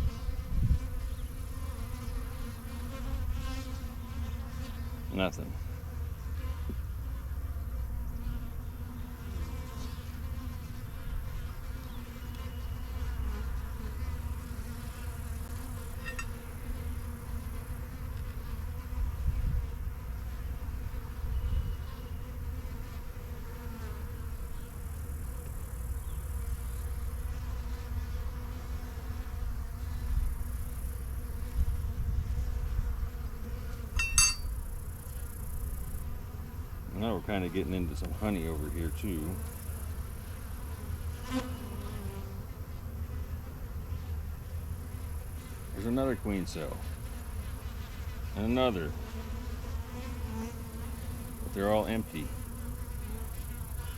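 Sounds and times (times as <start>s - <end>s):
honeybees buzzing: 0.0s - 53.9s.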